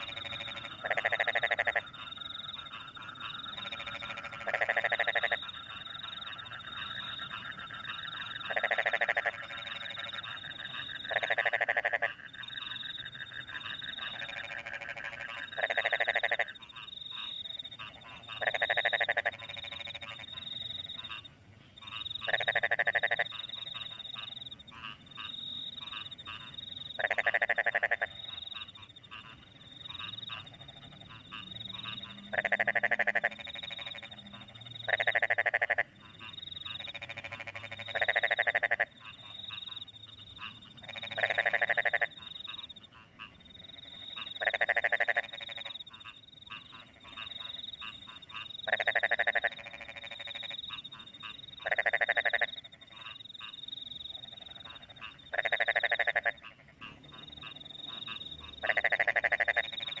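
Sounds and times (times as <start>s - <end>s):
crickets chirping: 0.0s - 60.0s
frog croaking loudly: 0.0s - 60.0s
quieter frog calls: 0.0s - 60.0s.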